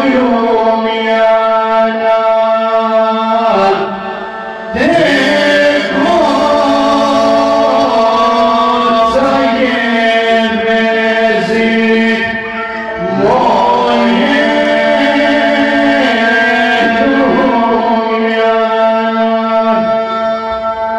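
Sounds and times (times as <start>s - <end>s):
keyboard drone: 0.0s - 20.9s
men singing: 0.0s - 20.9s.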